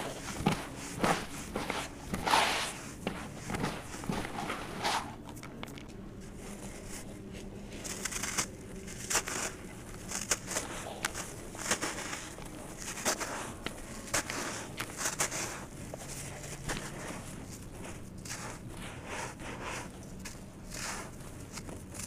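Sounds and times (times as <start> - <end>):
hands crumbling dry sand: 0.0 - 22.0.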